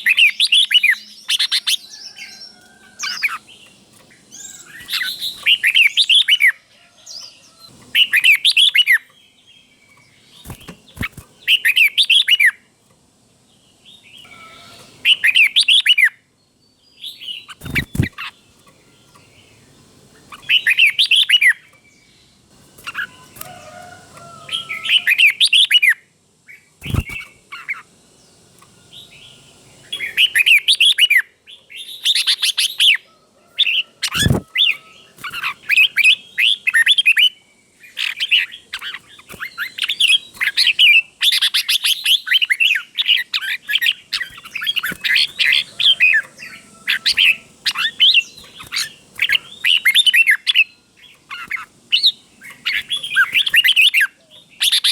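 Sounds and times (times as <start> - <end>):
bulbul singing: 0.0 - 12.8, 13.5 - 33.0, 33.6 - 54.9.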